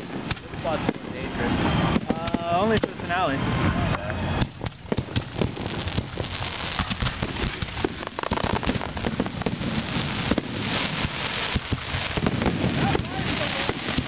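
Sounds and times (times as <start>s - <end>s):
firework shells bursting: 0.0s - 1.3s, 1.9s - 3.2s, 4.4s - 14.0s
hiss of burning fireworks: 0.0s - 14.0s.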